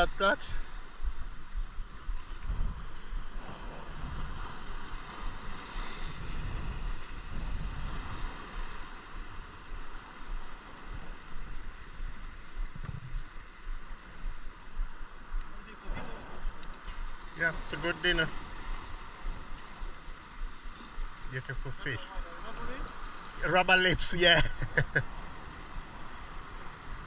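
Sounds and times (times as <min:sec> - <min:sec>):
ocean surf: 0:00.0 - 0:27.0
wind rumbling on microphone: 0:00.0 - 0:27.0.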